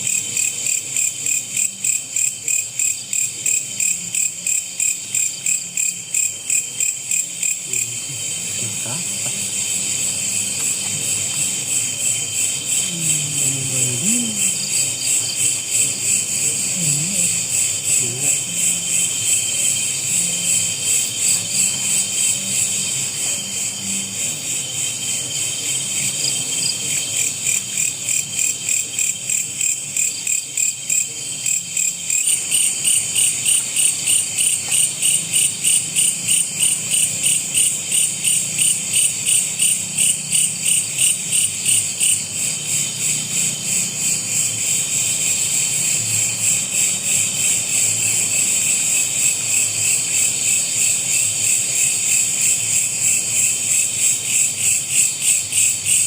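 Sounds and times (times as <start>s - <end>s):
insects chirping in chorus: 0.0s - 56.0s.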